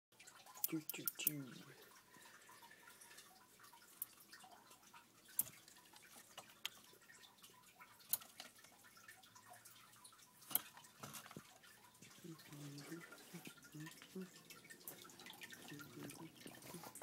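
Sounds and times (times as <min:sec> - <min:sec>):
faint water dripping: 0:00.1 - 0:17.0.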